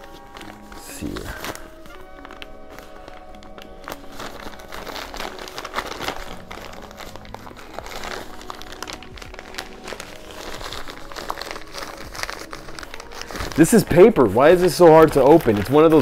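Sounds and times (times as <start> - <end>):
paper mailer crinkling: 0.0 - 16.0
quiet background music: 0.0 - 16.0.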